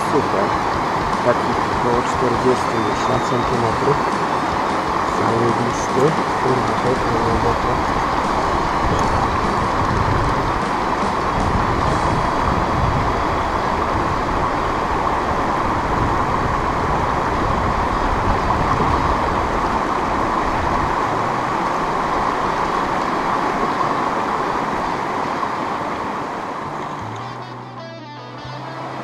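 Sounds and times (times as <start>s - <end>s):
water rushing over stones: 0.0s - 27.2s.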